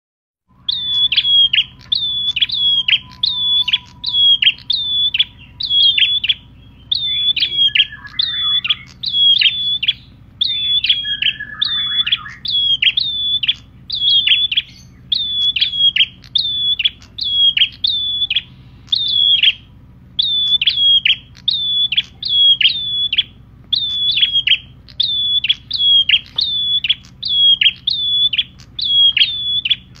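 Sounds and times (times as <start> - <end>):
low steady hum: 0.5 - 30.0
songbird sharp high chirps: 0.5 - 30.0.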